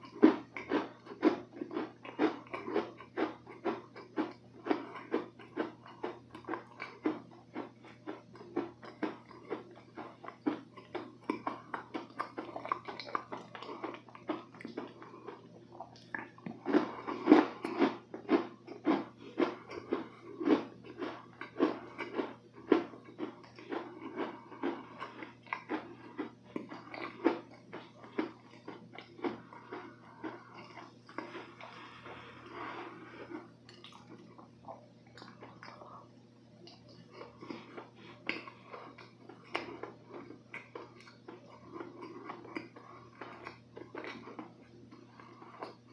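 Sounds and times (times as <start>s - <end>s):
chewing a soft cookie: 0.0s - 45.9s.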